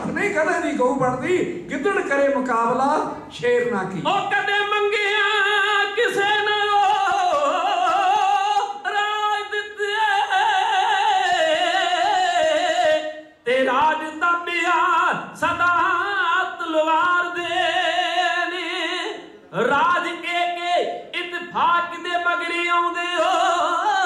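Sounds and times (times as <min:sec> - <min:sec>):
men singing through a microphone: 0:04.1 - 0:24.0.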